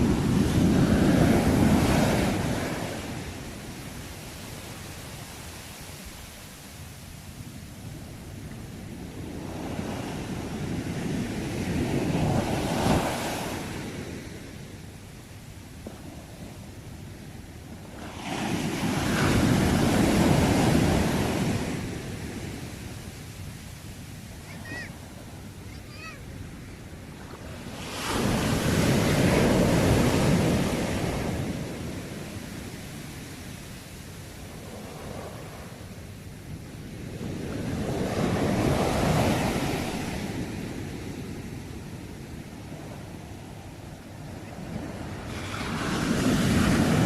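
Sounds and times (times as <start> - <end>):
wave crashing on shore: 0.0 - 14.6, 15.8 - 41.6, 42.5 - 47.0
steady hiss of surf: 0.0 - 47.0.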